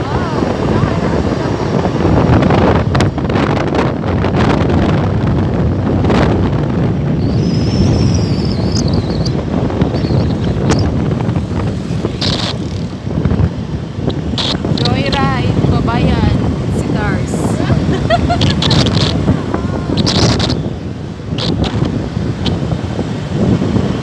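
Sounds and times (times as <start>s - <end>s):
car road noise rumble: 0.0s - 24.0s
wind rushing over microphone: 0.0s - 24.0s.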